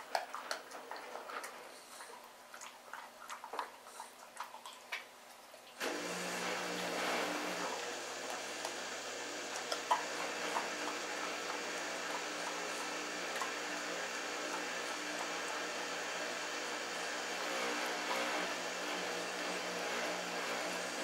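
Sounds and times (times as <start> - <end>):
puppy chewing bones: 0.0 - 5.8, 8.1 - 20.6.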